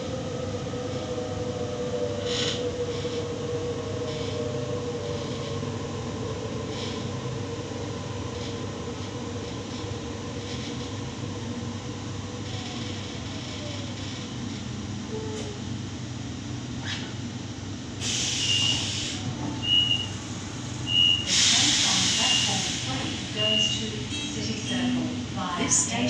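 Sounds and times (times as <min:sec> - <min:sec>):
train running gear rumble: 0:00.0 - 0:26.0.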